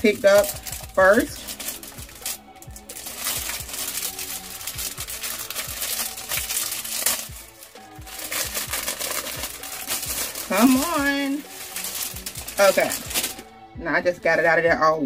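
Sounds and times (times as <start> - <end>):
plastic packaging crinkling: 0.0 - 13.5.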